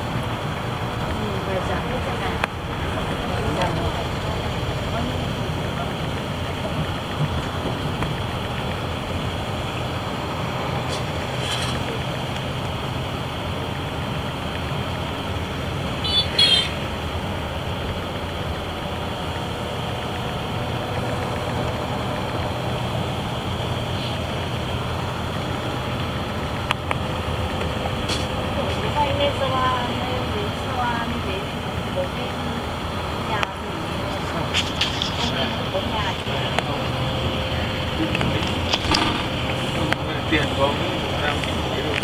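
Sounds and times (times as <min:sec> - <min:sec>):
vehicle engine and road rumble: 0:00.0 - 0:42.0.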